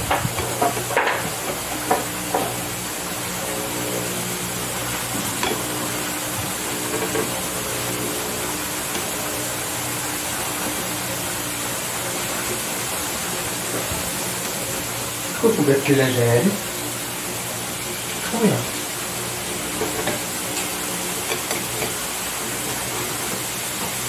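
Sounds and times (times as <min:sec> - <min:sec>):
food sizzling in a pan: 0:00.1 - 0:24.0.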